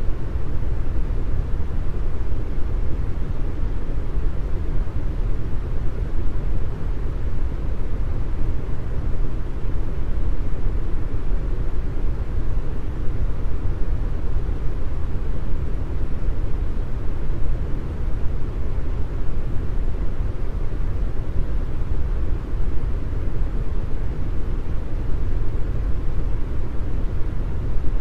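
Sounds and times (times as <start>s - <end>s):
deep brown noise hiss: 0.0s - 28.0s.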